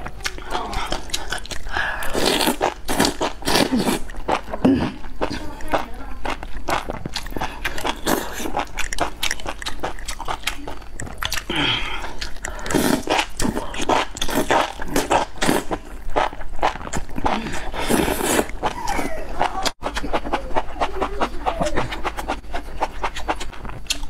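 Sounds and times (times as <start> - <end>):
slurping and chewing: 0.0 - 24.0.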